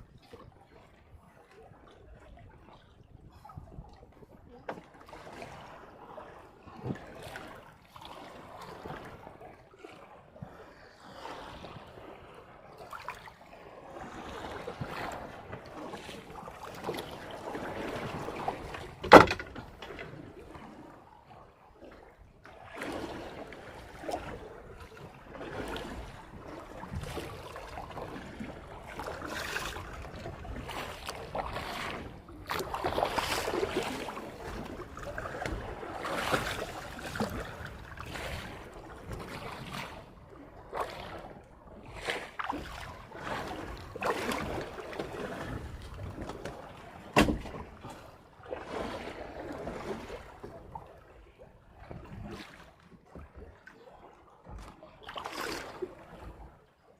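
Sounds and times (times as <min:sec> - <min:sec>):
water washing against hull: 0:00.0 - 0:56.9.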